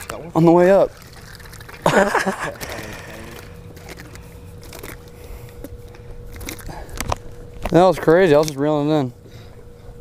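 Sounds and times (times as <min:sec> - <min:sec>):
thin steady hum: 0:00.0 - 0:10.0.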